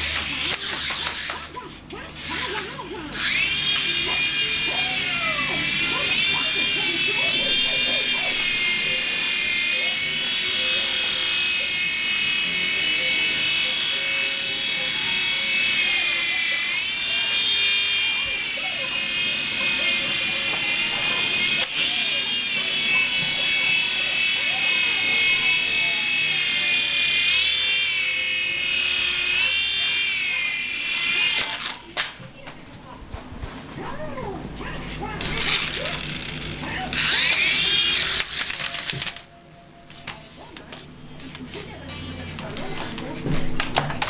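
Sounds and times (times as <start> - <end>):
toy helicopter motor whine: 0.0 - 32.2, 34.2 - 44.0.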